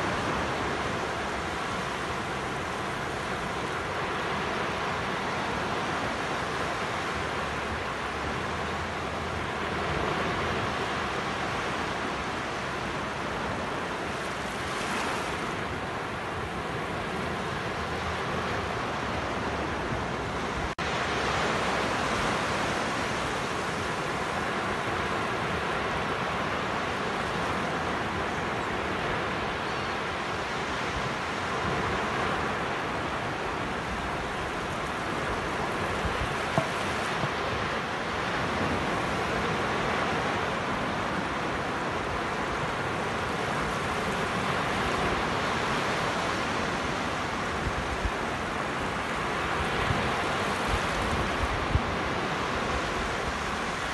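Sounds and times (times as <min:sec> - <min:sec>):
waves washing on sand: 0:00.0 - 0:53.9.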